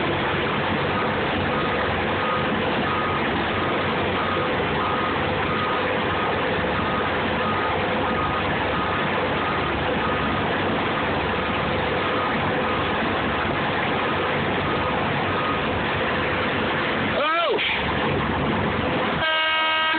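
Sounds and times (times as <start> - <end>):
reversing beeper: 0.0 - 16.5, 19.2 - 19.9
truck engine running: 0.0 - 19.9.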